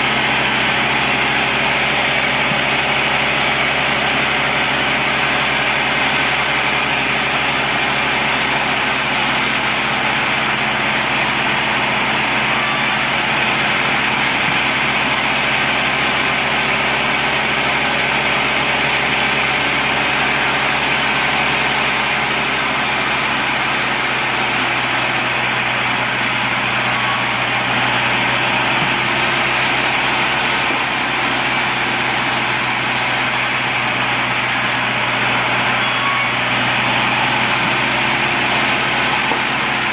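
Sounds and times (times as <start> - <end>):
bandsaw running: 0.0 - 39.9.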